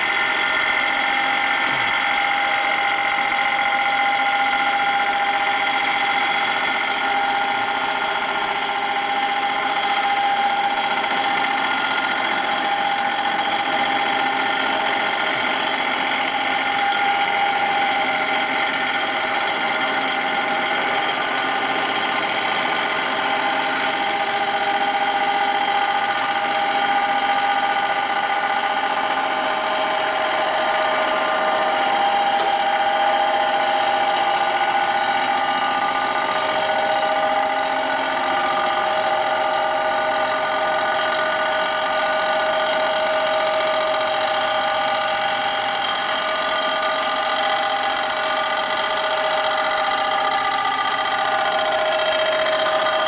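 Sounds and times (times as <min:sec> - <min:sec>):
metal-cutting machine whine: 0:00.0 - 0:53.0.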